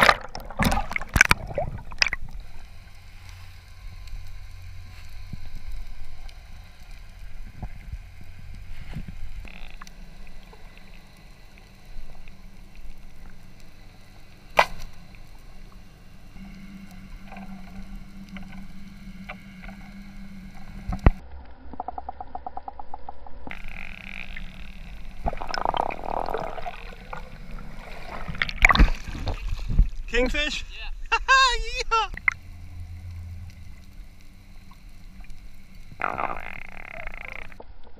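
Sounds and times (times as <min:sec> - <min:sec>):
underwater low hiss: 0:00.8 - 0:21.2, 0:23.4 - 0:31.2, 0:32.1 - 0:37.6.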